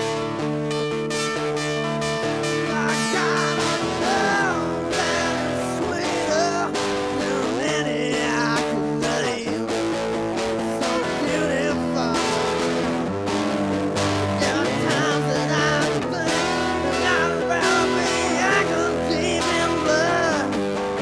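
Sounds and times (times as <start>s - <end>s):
bending guitar lead lines: 0.0s - 21.0s
rock band instrumental: 0.0s - 21.0s.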